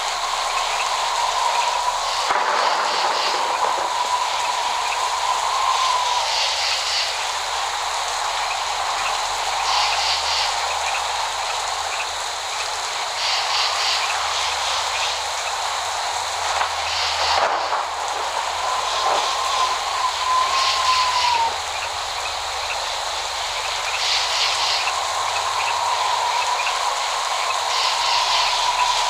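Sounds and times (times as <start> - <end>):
rain pouring down: 0.0 - 29.0.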